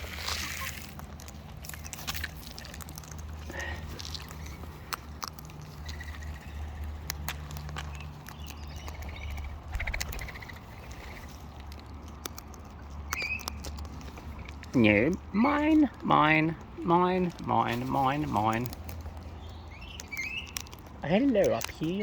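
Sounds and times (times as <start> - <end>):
beaks cracking seeds: 0.0 - 22.0
parrots chirping softly: 0.0 - 22.0.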